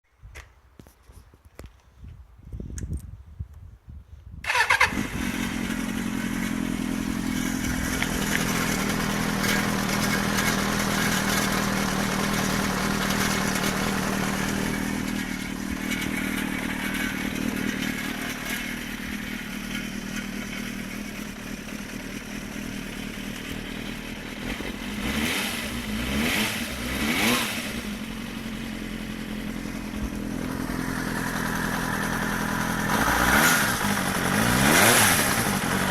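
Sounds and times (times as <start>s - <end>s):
motorcycle engine starting and idling: 4.4s - 35.9s
engine rattle: 4.5s - 35.9s.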